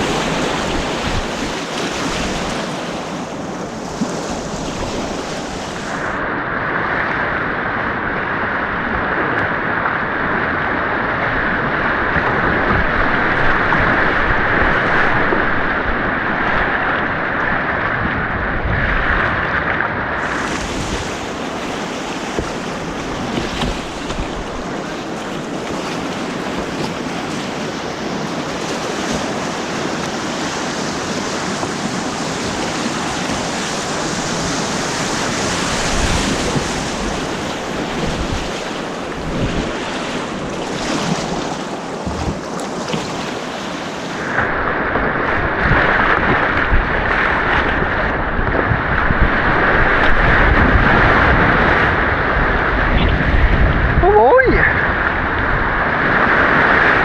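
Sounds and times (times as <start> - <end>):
rushing white water: 0.0 - 57.0
wind buffeting microphone: 0.0 - 57.0.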